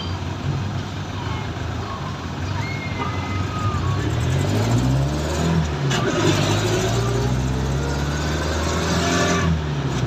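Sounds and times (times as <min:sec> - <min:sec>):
rushing road noise: 0:00.0 - 0:10.0.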